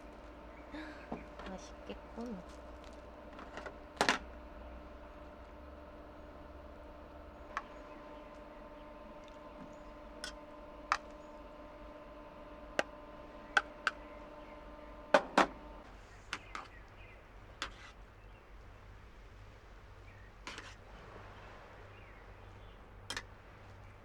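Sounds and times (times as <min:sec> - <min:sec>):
steady multi-tone hum: 0:00.0 - 0:24.0.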